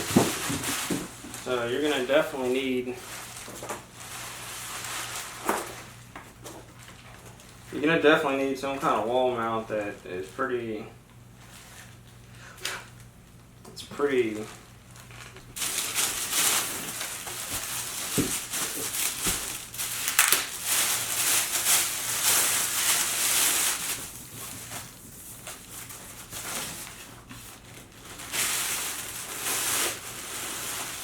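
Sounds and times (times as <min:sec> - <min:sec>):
packaging rustling and crinkling: 0:00.0 - 0:08.0, 0:14.0 - 0:31.0.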